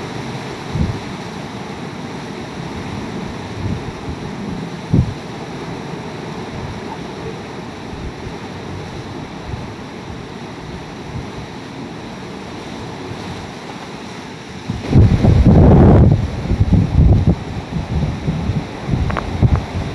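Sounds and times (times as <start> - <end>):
heavy rain: 0.0 - 19.9
hurricane-force wind: 0.0 - 19.9
wind gusts buffeting microphone: 0.0 - 19.9.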